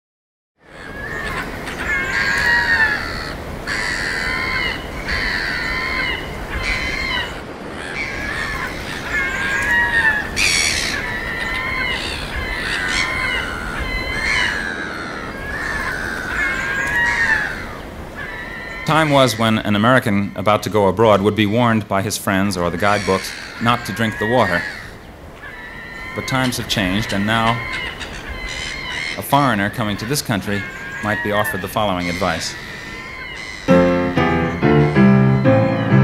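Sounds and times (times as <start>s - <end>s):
birds squawking: 0.6s - 36.0s
steady low hiss: 0.7s - 36.0s.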